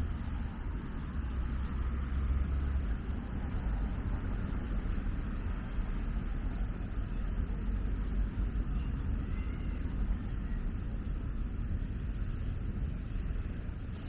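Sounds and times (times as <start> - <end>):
distant road traffic: 0.0 - 14.0.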